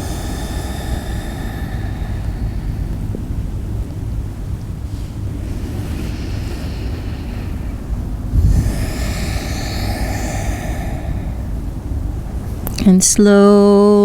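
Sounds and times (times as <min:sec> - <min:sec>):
hissing with wavering pitch: 0:00.0 - 0:12.8
wind on microphone: 0:00.0 - 0:13.0
distant traffic: 0:00.0 - 0:13.8.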